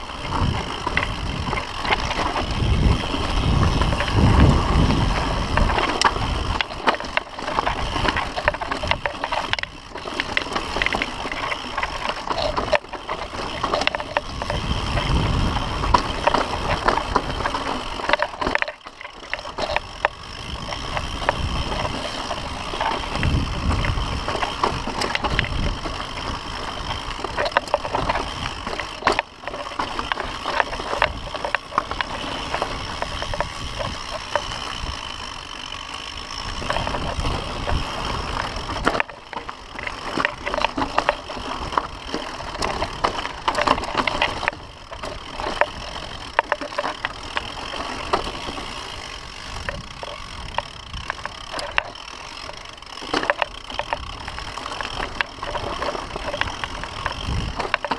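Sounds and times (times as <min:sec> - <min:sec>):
wind rumble on microphone: 0:00.0 - 0:18.7, 0:19.5 - 0:35.3, 0:36.2 - 0:46.4, 0:53.6 - 0:57.8
bike rattling over bumps: 0:00.0 - 0:57.9
bike tyres crunching over stones: 0:00.0 - 0:57.9.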